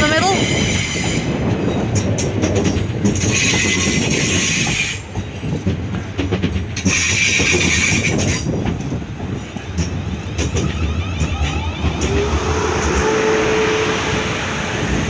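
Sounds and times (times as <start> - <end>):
train wheels clicking over rail joints: 0.0 - 13.6
low hum from train: 0.0 - 15.0.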